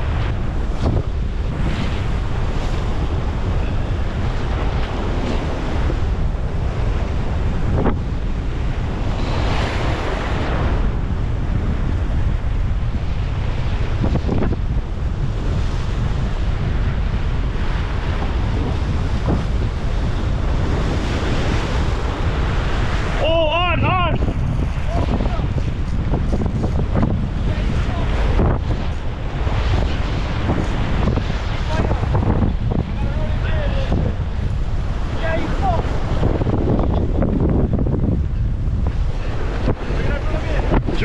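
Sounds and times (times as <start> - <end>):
waves washing onto shore: 0.0 - 41.0
wind buffeting microphone: 0.0 - 41.0.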